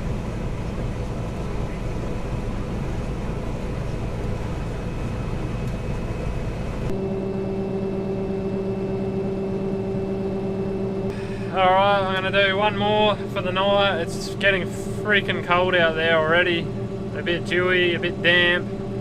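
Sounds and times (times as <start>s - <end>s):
combine harvester drone: 0.0s - 19.0s
smooth low hum: 0.0s - 19.0s.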